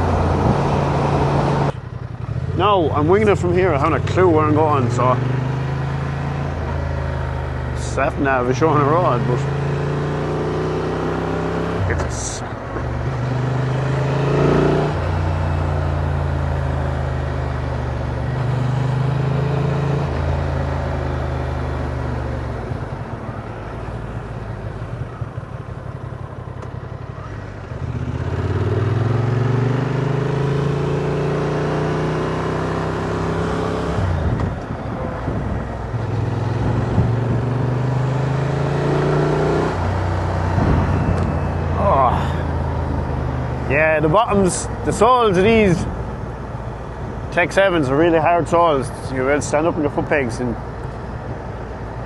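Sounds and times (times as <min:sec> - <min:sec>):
motorcycle engine cruising: 0:00.0 - 0:52.0
wind and road noise: 0:00.0 - 0:52.0.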